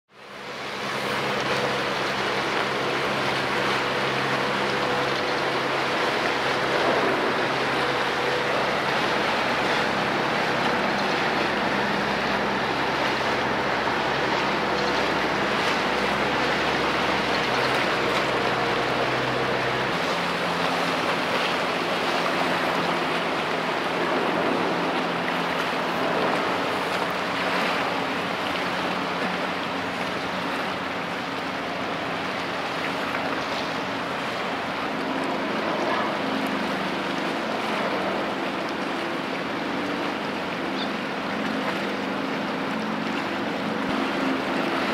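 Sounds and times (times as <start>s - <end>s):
ship engine drone: 0.1s - 44.9s
water noise on shore: 0.1s - 44.9s
wind: 0.1s - 44.9s.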